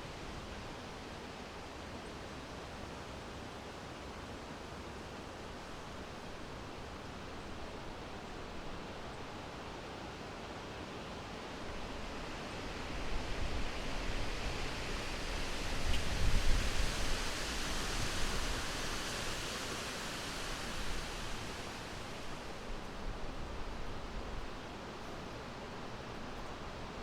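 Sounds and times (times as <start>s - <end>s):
wind rustling through forest: 0.0s - 27.0s.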